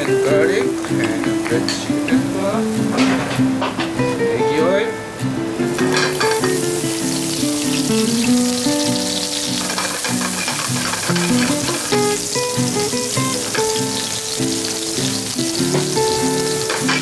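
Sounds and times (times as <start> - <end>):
food sizzling in oil: 0.0 - 17.0
melodic background music: 0.0 - 17.0.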